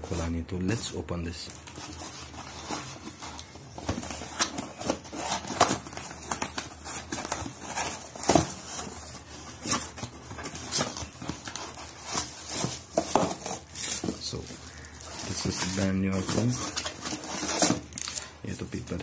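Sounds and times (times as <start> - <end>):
cardboard rustles rips and knocks: 1.8 - 17.9.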